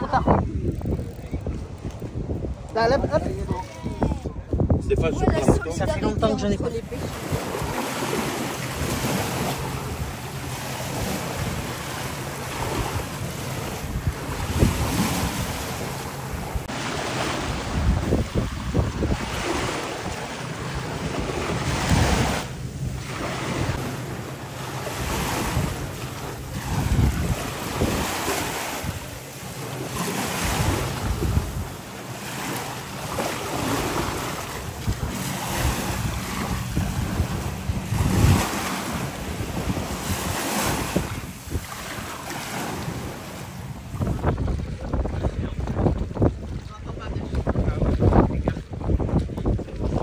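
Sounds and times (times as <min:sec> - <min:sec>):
small waves washing onto shore: 0:00.0 - 0:50.0
wind rumbling on microphone: 0:00.0 - 0:50.0.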